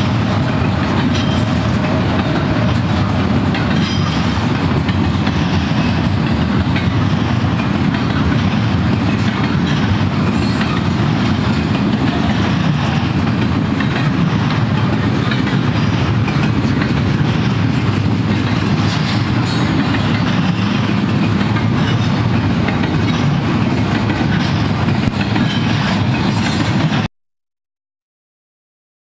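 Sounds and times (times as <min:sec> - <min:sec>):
steel wheels on rail: 0:00.0 - 0:27.1.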